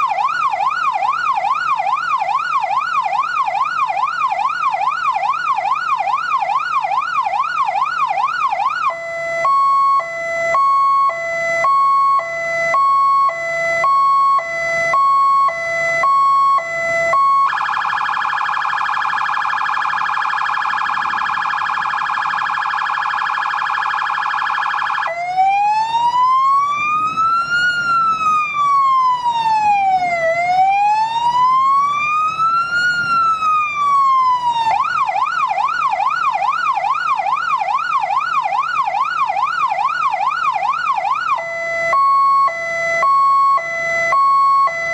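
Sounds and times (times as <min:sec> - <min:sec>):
fire engine electronic siren: 0:00.0 - 0:44.9.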